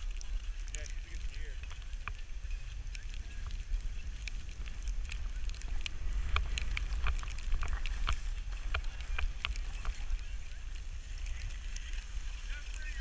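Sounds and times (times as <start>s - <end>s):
ski edges scraping: 0.0s - 13.0s
skis sliding over snow: 0.0s - 13.0s
wind rumble on microphone: 0.0s - 13.0s.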